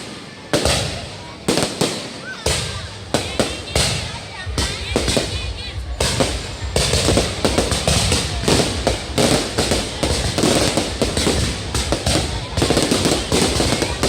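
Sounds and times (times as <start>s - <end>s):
fireworks cracking and banging: 0.0s - 14.0s.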